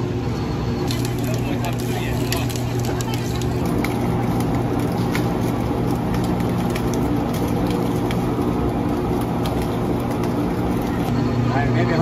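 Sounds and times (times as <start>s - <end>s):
motor hum: 0.4s - 11.9s.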